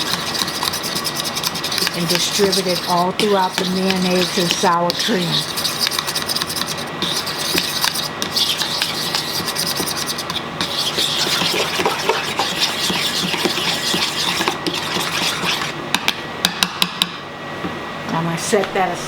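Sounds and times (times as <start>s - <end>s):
fork whisking sauce in bowl: 0.0s - 15.8s.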